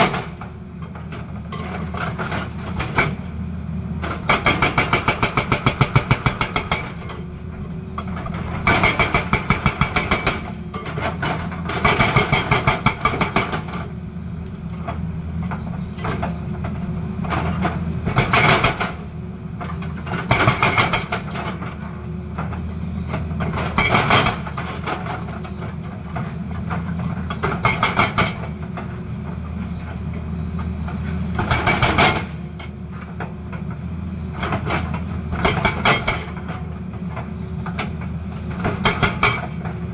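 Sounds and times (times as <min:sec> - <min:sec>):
hydraulic breaker hammering rock: 0:00.0 - 0:00.6, 0:04.0 - 0:13.9, 0:14.8 - 0:21.8, 0:22.4 - 0:28.8, 0:30.7 - 0:33.3, 0:34.4 - 0:39.8
excavator engine running: 0:00.0 - 0:39.9.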